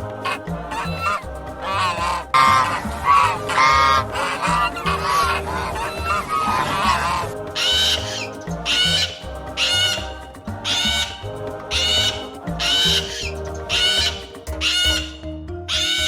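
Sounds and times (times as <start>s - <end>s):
background music with steady beat: 0.0s - 16.0s
bird calls: 0.3s - 10.1s, 10.7s - 16.0s.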